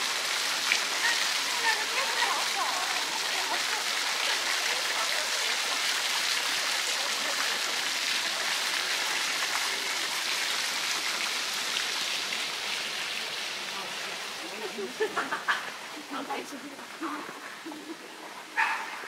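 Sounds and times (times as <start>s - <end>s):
hiss of running water: 0.0s - 19.0s.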